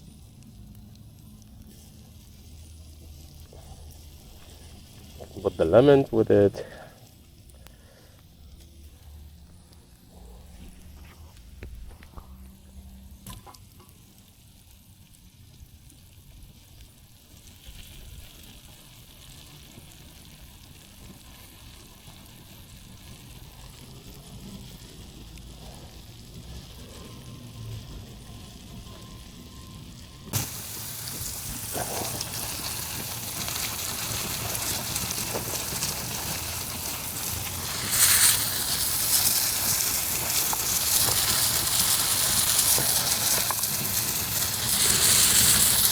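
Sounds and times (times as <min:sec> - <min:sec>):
shrimp sizzling in a pan: 0:00.0 - 0:45.9.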